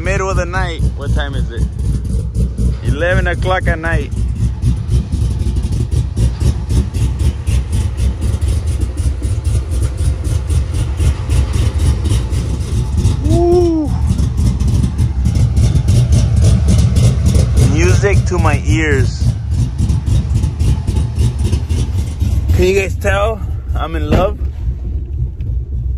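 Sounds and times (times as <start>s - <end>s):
truck engine running loudly: 0.0s - 25.9s.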